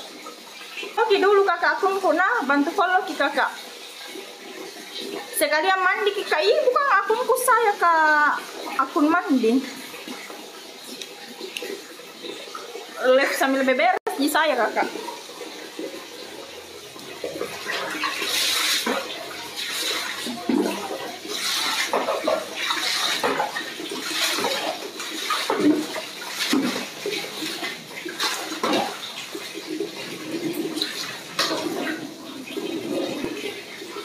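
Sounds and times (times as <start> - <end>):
water splashing in a basin: 0.0 - 34.0.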